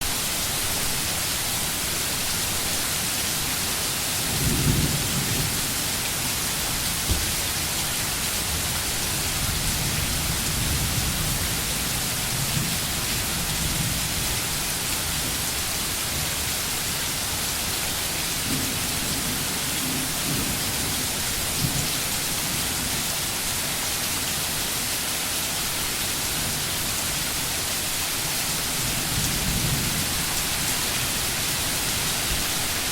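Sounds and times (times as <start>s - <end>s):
steady rain: 0.0s - 32.9s.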